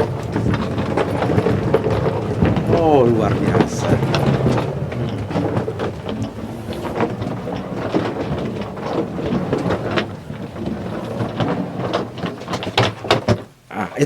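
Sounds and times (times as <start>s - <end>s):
suitcase wheels rolling: 0.0s - 14.0s
wheels clicking: 0.0s - 14.0s.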